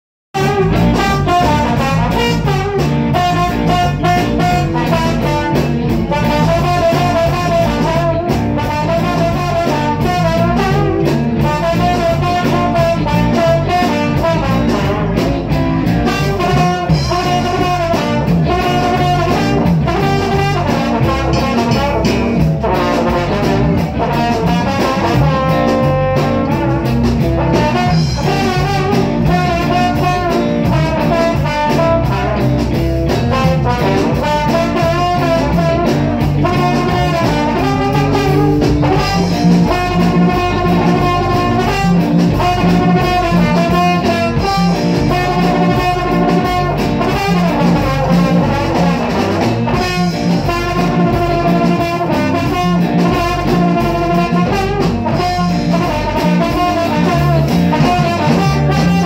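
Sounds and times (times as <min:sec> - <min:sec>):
brass horn melody: 0:00.3 - 0:59.0
live band playing: 0:00.3 - 0:59.0.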